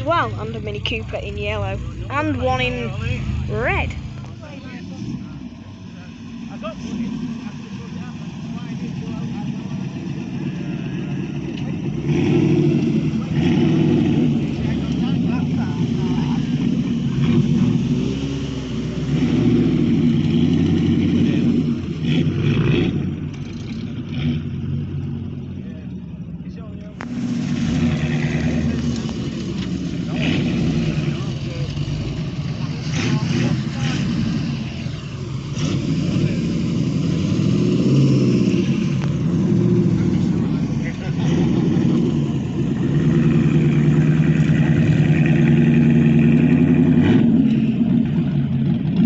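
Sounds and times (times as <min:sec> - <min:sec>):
car engine exhaust revving: 0:00.0 - 0:25.9, 0:26.8 - 0:49.0.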